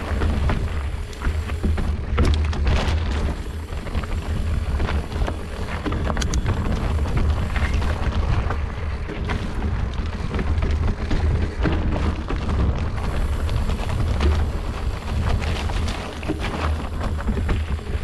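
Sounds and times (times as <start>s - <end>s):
bike rattling over rough ground: 0.0s - 18.0s
wind buffeting microphone: 0.0s - 18.0s.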